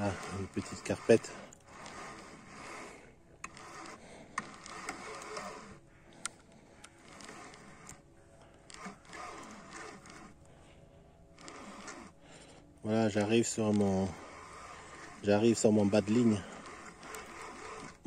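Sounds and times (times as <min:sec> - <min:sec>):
reel clicks: 0:00.0 - 0:10.5, 0:11.3 - 0:18.0
fishing reel whirring: 0:00.0 - 0:18.0.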